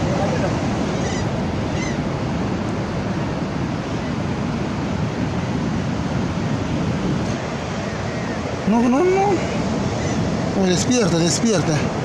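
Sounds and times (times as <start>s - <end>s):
surf breaking on a beach: 0.0s - 12.0s
wind: 0.0s - 12.0s.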